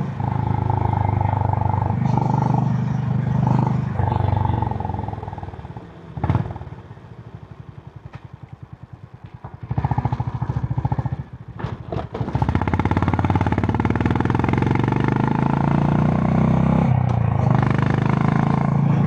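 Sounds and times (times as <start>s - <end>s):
motorcycle engine with thumpy exhaust: 0.0s - 19.0s.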